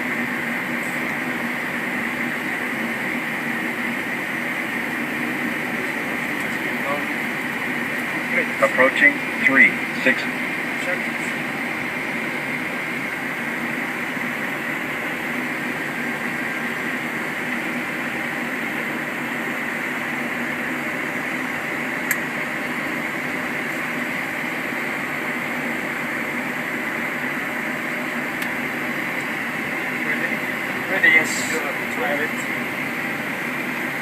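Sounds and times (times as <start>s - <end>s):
jet engines idling hum: 0.0s - 34.0s.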